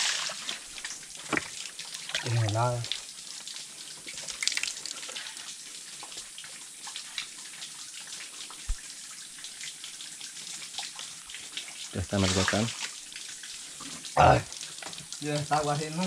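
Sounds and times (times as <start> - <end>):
spring water running and splashing: 0.0 - 16.0.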